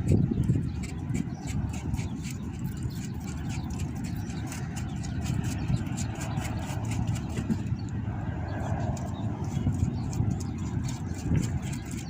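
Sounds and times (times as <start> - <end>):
rapid irregular clicking: 0.4 - 8.0, 8.8 - 12.0.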